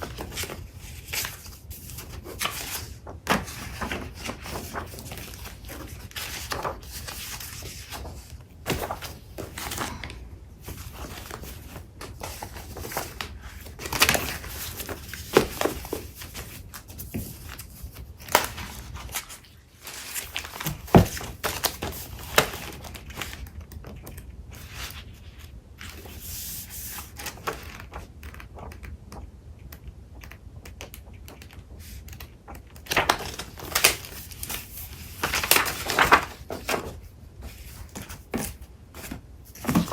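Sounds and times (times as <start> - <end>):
paper rustling: 0.0 - 28.9, 30.2 - 39.9.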